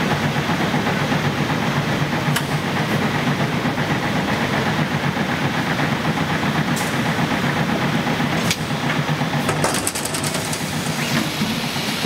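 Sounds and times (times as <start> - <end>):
filling machine mechanical hum: 0.0 - 12.0.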